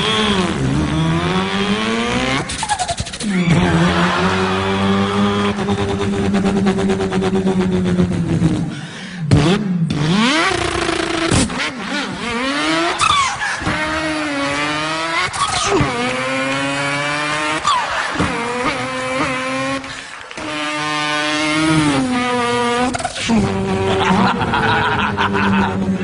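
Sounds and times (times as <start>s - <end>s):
man imitating car engine: 0.0s - 26.0s.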